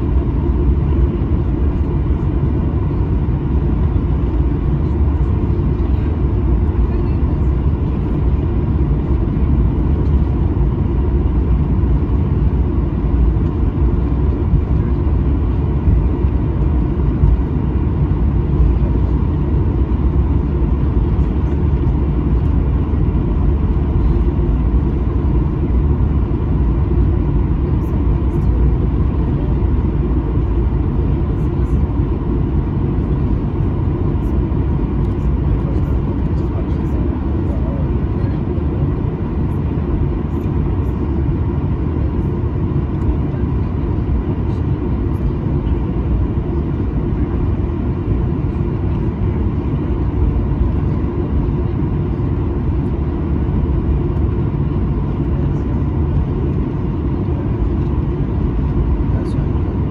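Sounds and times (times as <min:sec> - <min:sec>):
faint steady whine: 0:00.0 - 0:59.9
jet engines rumbling in cabin: 0:00.0 - 0:59.9.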